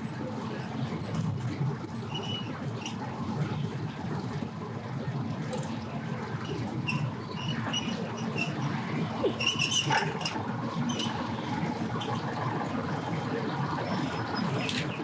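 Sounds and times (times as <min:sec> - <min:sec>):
boat engines rumbling: 0:00.1 - 0:15.0.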